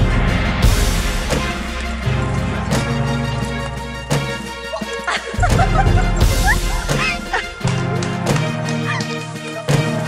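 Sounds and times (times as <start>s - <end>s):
background music with low notes: 0.0s - 10.0s.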